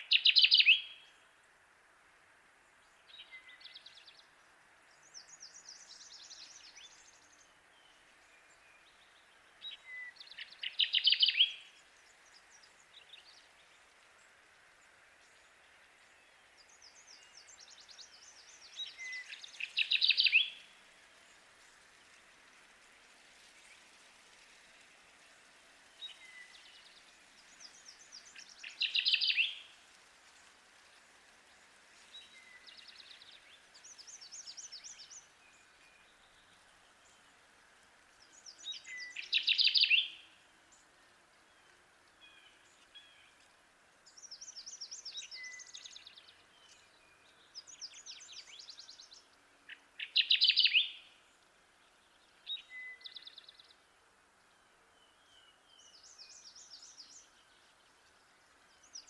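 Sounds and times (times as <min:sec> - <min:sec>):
warbler singing: 0:00.0 - 0:01.3, 0:02.8 - 0:14.4, 0:15.1 - 0:22.2, 0:25.4 - 0:29.8, 0:31.5 - 0:37.4, 0:38.2 - 0:59.0
background hiss: 0:00.0 - 0:59.0.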